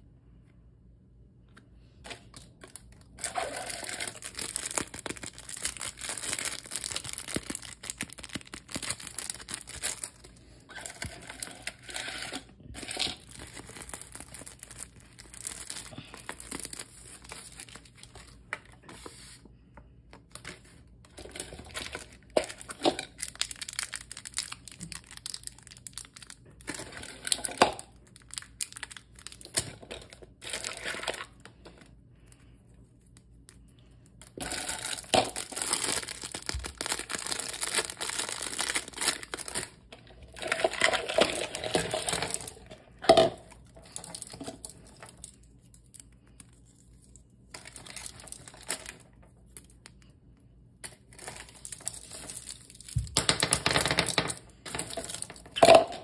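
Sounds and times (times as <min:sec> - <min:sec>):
wrapping crackling: 0:02.1 - 0:19.3, 0:20.2 - 0:31.7, 0:32.3 - 0:42.7, 0:43.5 - 0:50.1, 0:50.9 - 0:53.1.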